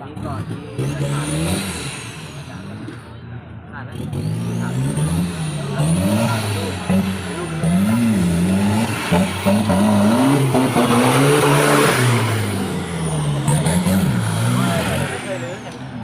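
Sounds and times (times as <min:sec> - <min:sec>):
off-road engine revving: 0:00.0 - 0:16.0.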